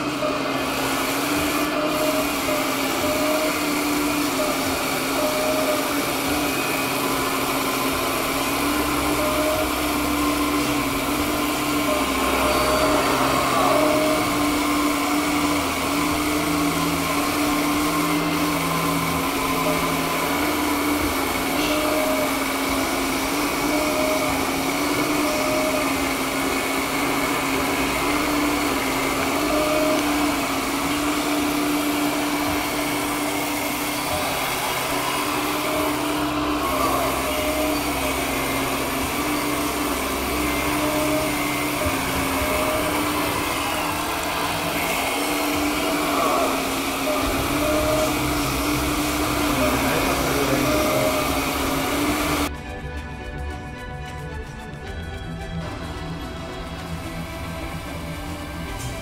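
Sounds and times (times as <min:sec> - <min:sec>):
model excavator motors whirring: 0:00.0 - 0:53.0, 0:54.3 - 0:59.0.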